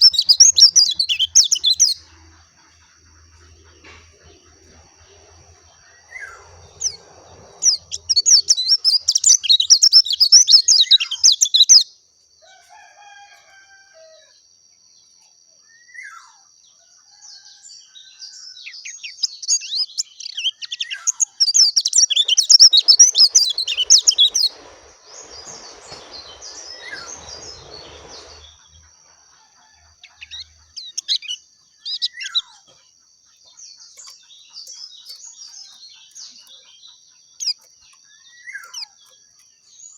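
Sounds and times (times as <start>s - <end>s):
bird chirps: 0.0s - 11.8s, 18.2s - 39.9s
bird twittering song: 0.0s - 11.9s, 15.6s - 39.9s.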